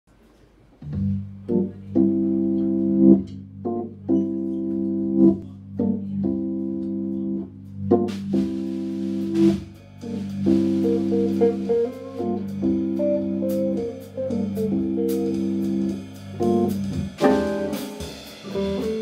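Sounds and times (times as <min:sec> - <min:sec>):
organ playing jazz chords: 0:00.8 - 0:19.0.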